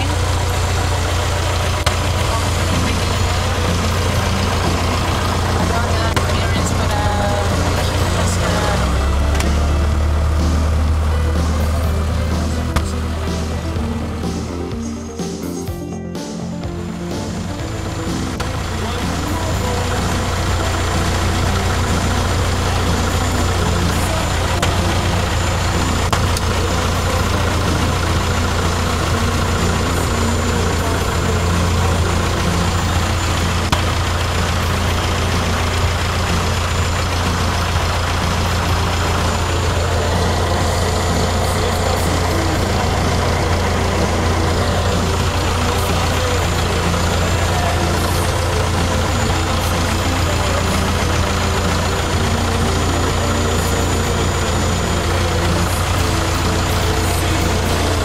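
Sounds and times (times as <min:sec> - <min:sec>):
small plane engine and propeller: 0:00.0 - 0:58.0.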